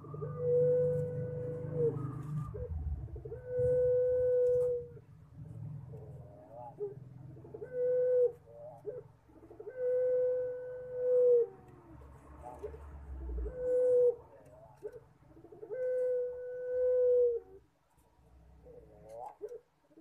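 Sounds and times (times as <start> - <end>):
dove cooing: 0.0 - 5.0, 5.9 - 17.7, 18.6 - 20.0.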